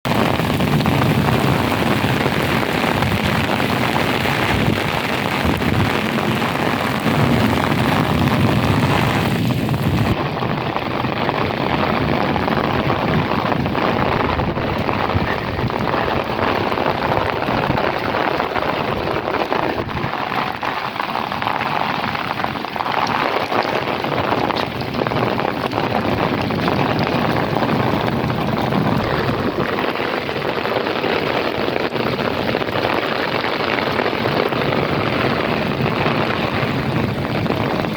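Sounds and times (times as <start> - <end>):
heavy rain hissing: 0.1 - 10.6, 11.2 - 37.9.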